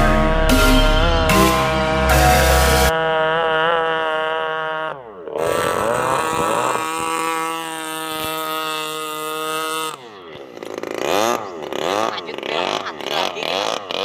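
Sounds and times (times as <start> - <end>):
small engine buzzing and revving: 0.0 - 14.0.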